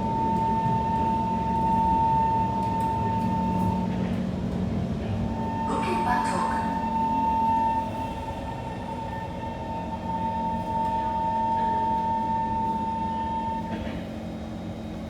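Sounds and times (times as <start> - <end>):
high whine of traction motors: 0.0 - 15.0
metro train rumbling: 0.0 - 15.0.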